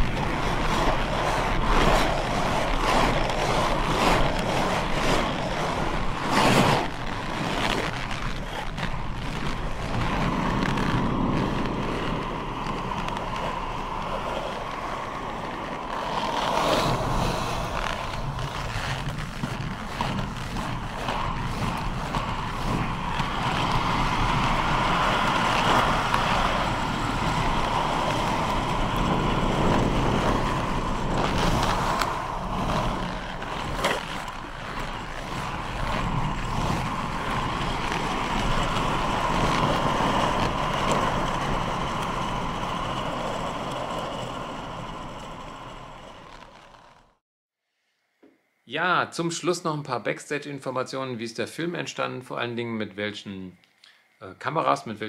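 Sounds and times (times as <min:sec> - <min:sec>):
inline skate wheels rolling: 0:00.0 - 0:47.2
skate clicks and knocks: 0:00.0 - 0:47.2.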